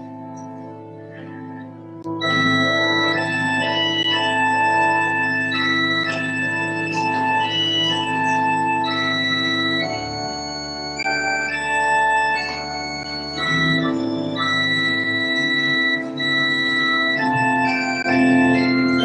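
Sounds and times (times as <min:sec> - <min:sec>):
organ chords: 0:00.0 - 0:19.0.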